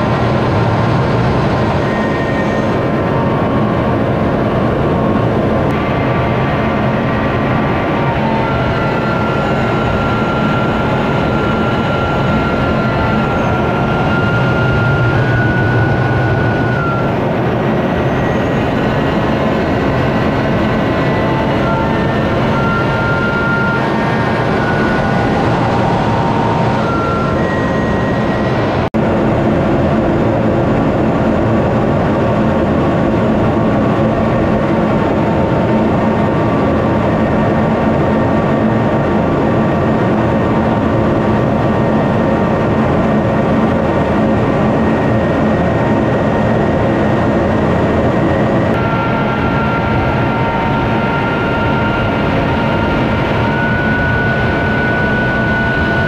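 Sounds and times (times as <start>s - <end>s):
faint steady whines: 0.0s - 56.0s
jet engine and airflow rush: 0.0s - 56.0s.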